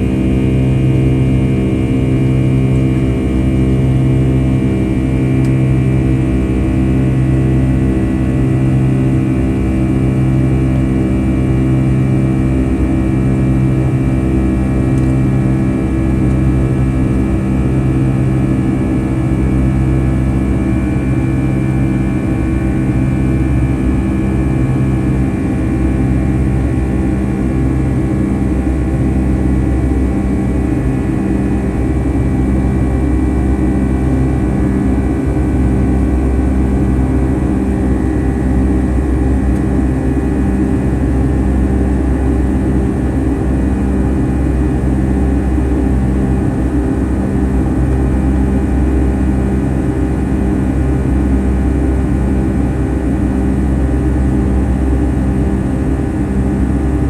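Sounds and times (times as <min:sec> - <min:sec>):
jet engines in cabin: 0:00.0 - 0:57.0.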